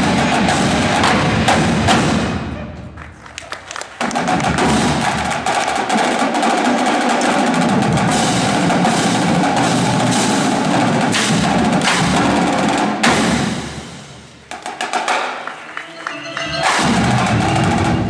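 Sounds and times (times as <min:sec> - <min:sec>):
drumline playing: 0:00.0 - 0:18.0.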